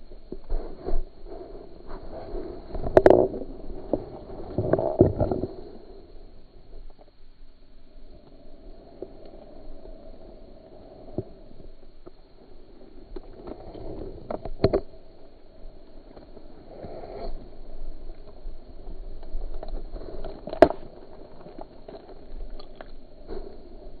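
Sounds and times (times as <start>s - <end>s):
background hiss: 0.0s - 22.3s.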